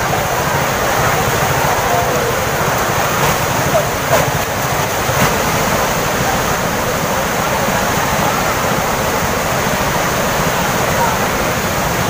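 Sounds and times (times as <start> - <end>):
waterfall rushing: 0.0 - 12.0
white water pouring over rock: 0.0 - 12.0.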